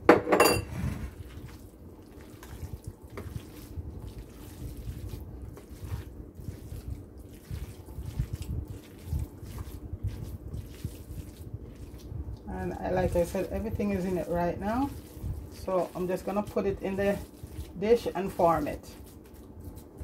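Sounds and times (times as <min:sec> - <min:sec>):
hands squishing wet meat mixture: 0:01.0 - 0:20.0.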